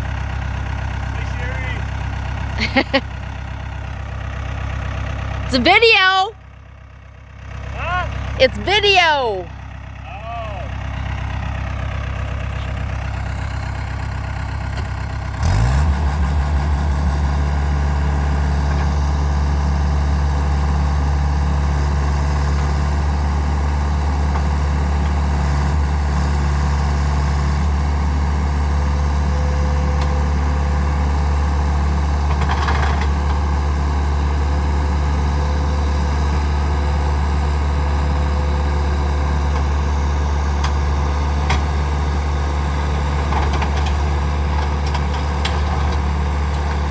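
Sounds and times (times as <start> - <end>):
dump truck engine idling and revving: 0.0 - 46.9.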